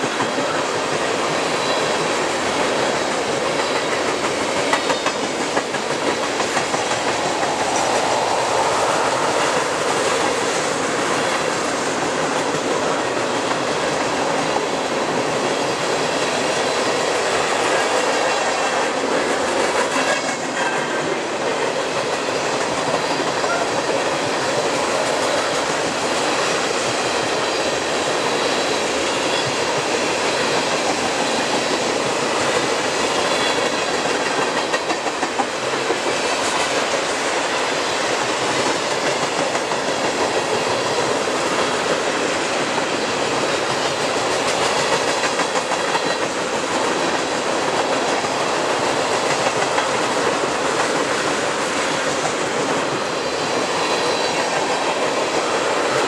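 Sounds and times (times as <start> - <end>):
train wheels rolling on rail: 0.0 - 56.0.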